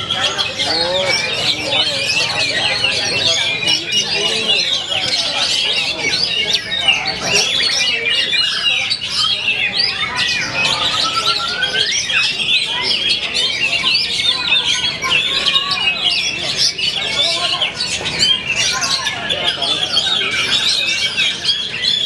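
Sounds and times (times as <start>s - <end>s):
chorus of songbirds singing: 0.0s - 22.0s.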